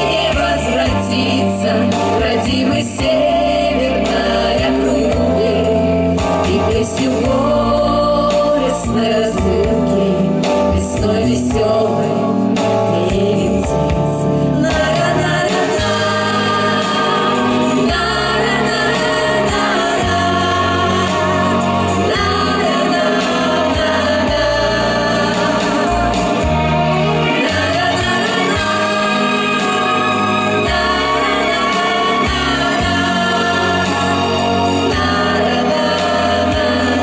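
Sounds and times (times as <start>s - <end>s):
women singing in harmony: 0.0s - 37.0s.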